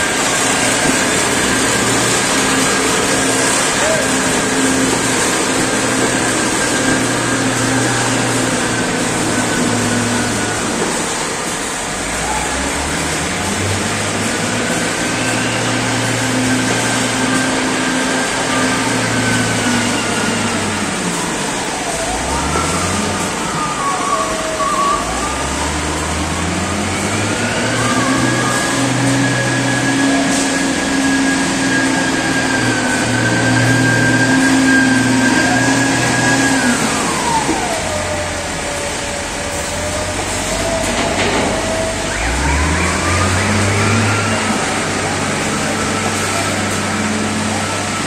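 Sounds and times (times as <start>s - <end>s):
machinery running: 0.0s - 48.0s
wheel loader diesel engine: 0.0s - 48.0s
whining tones: 0.0s - 48.0s.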